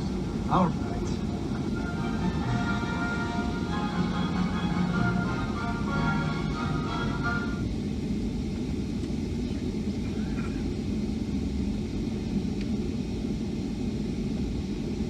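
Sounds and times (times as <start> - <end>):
jet cabin low rumble: 0.0 - 15.0.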